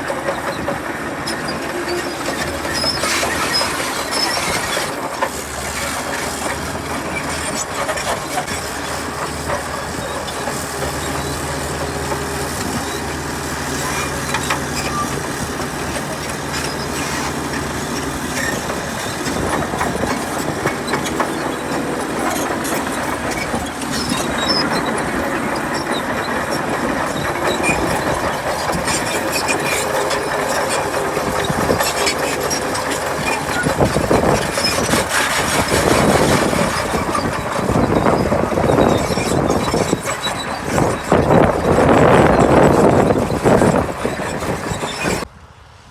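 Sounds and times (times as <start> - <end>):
steel tracks clanking: 0.0 - 45.3
bulldozer diesel engine droning: 0.0 - 45.9.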